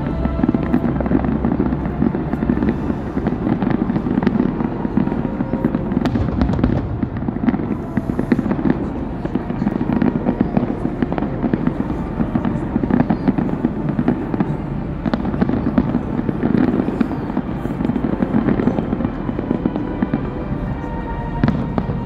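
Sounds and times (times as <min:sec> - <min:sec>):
fireworks bangs and crackles: 0:00.0 - 0:22.0
rumble of firework bursts: 0:00.0 - 0:22.0.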